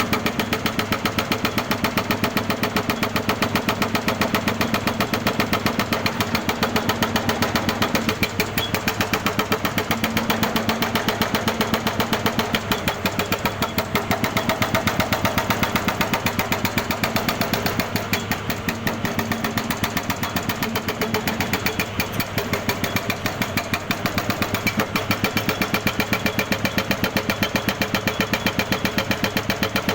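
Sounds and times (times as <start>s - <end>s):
jackhammer hammering: 0.0s - 29.9s.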